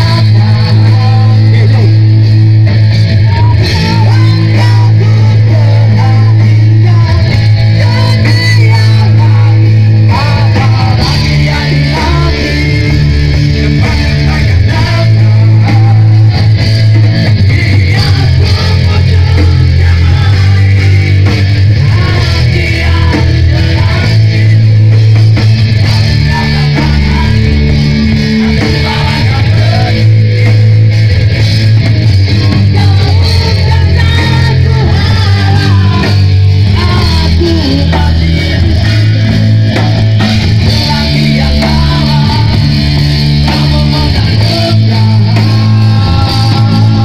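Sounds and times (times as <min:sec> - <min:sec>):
man singing into microphone: 0:00.0 - 0:02.4, 0:03.0 - 0:30.7, 0:32.3 - 0:47.0
live rock band playing: 0:00.0 - 0:47.0.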